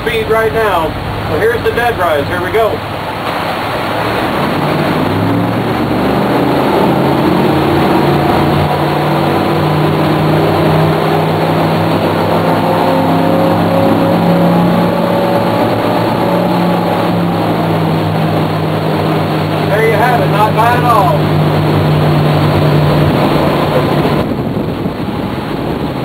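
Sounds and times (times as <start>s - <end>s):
boat engines throttling up: 0.0s - 26.0s
rush of water and wind: 0.0s - 26.0s.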